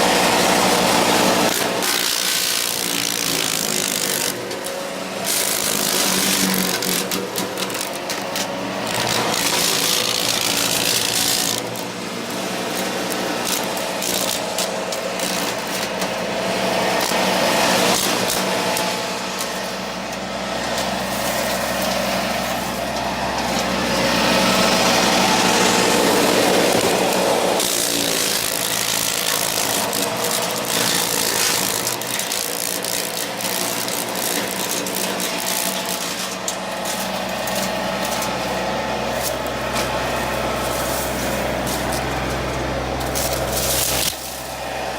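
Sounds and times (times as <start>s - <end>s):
tractor engine running: 0.0s - 44.9s
wood chipper grinding branches: 0.0s - 44.9s.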